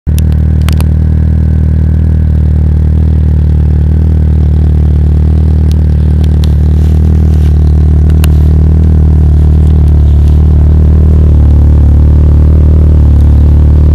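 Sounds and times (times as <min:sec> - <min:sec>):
car exhaust idling: 0:00.1 - 0:13.9.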